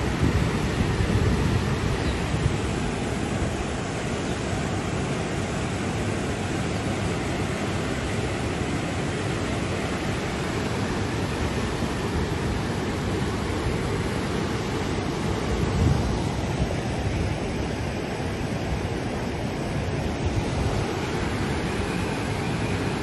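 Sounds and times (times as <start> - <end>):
water rushing: 0.0 - 23.0.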